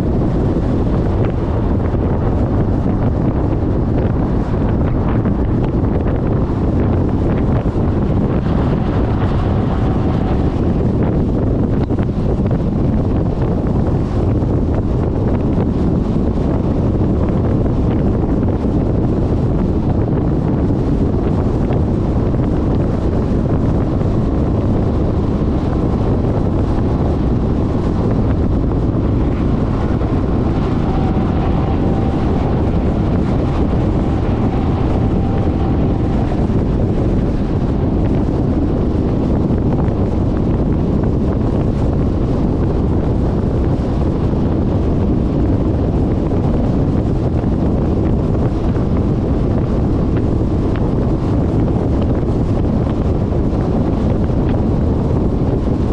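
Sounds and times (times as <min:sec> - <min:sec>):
road noise: 0:00.0 - 0:55.9
wind buffeting microphone: 0:00.0 - 0:55.9.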